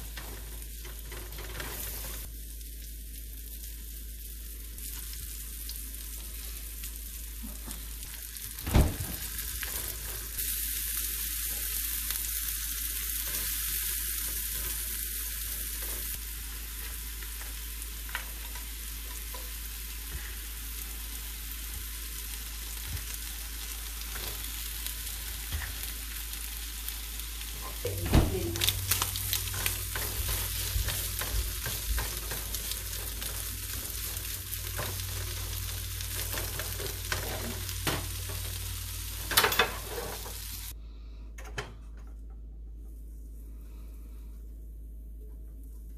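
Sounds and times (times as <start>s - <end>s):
food sizzling in frying pan: 0.0s - 40.8s.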